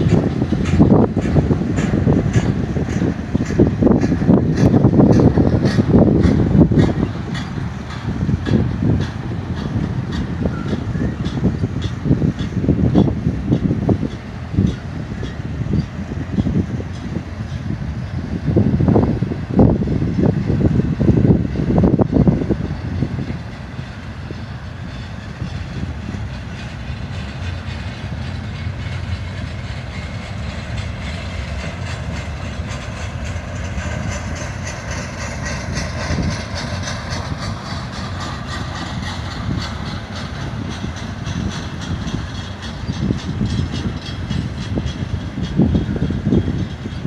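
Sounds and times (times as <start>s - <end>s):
faint regular rail clicking: 0.0s - 47.0s
freight train wheels rumbling: 0.0s - 47.0s.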